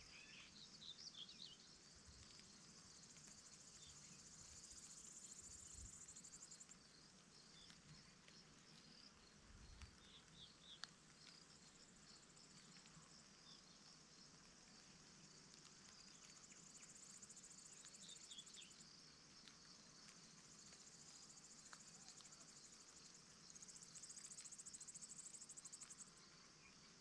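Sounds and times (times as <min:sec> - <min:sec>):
insects chirring in grass: 0:00.1 - 0:27.0.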